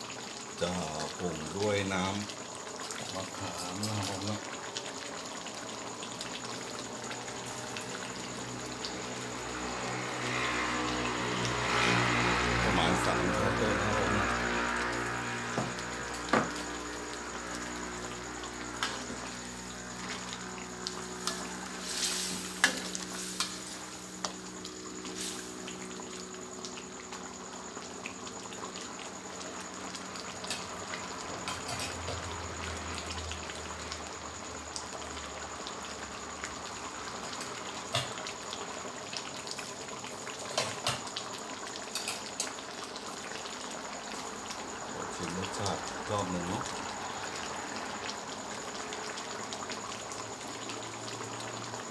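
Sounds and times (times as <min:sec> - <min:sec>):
curry bubbling and sizzling in a wok: 0:00.0 - 0:51.9.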